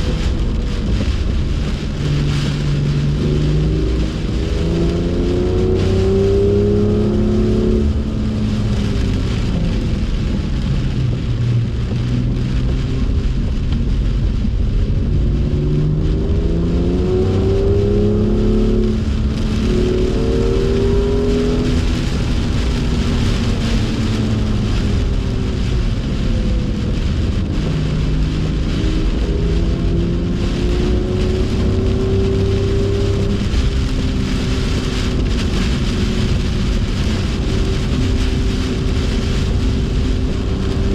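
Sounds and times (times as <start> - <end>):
car engine revving hard: 0.0 - 40.9
rain and tyre spray hiss: 0.0 - 40.9.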